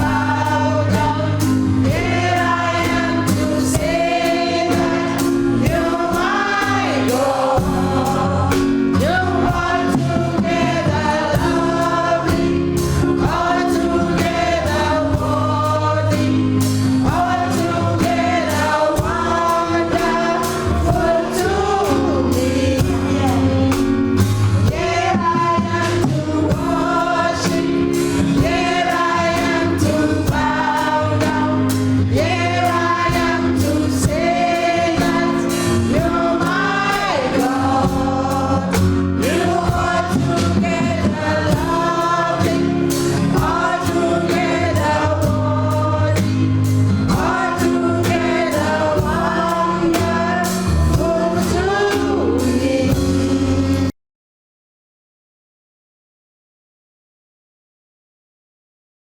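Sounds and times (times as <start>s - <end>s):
band accompaniment: 0.0s - 53.9s
gospel choir singing: 0.0s - 53.9s.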